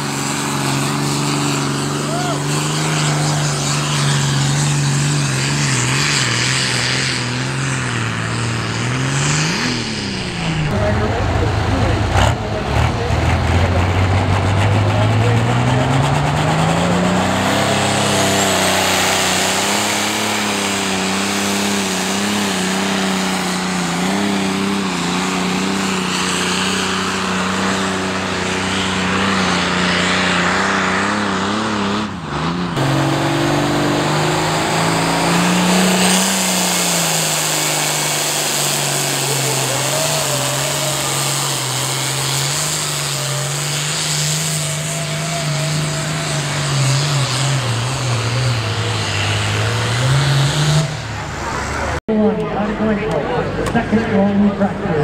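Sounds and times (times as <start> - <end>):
diesel tractor engine running hard: 0.0 - 55.0.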